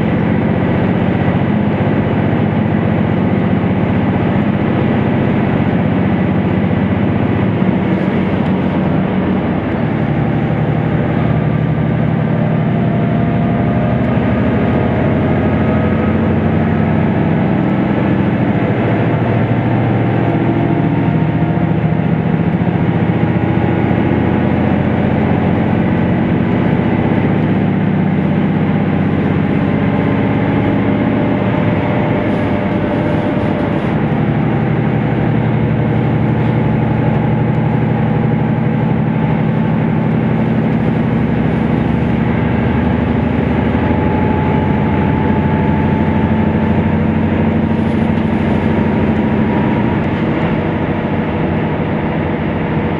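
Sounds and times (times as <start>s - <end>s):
diesel engine drone: 0.0s - 52.9s
wheels rumbling on rail: 0.0s - 52.9s.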